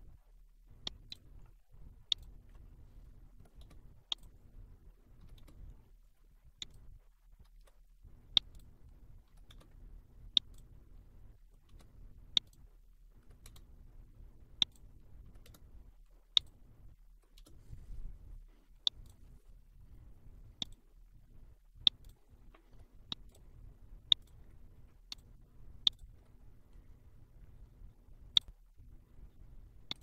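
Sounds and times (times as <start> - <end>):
faint low background noise: 0.0 - 30.0.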